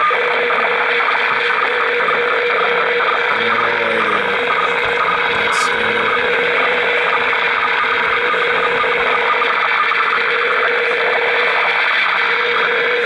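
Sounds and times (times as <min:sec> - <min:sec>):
constant radio tone: 0:00.0 - 0:13.0
shortwave radio buzzing hiss: 0:00.0 - 0:13.0.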